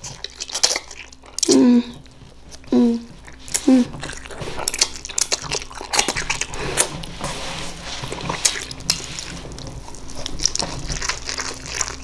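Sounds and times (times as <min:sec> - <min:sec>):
noodle slurping: 0:00.0 - 0:12.0
wet chewing: 0:00.0 - 0:12.0.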